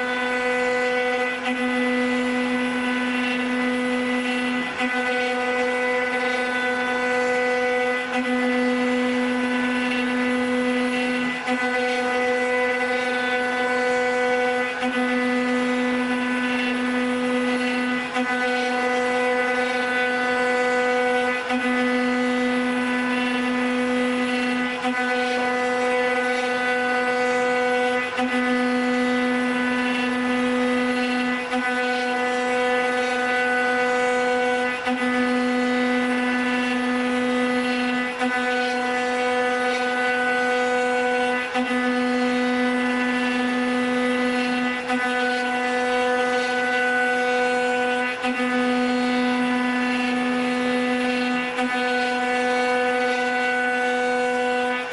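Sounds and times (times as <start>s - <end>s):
wood router high-pitched whine: 0.0s - 54.9s.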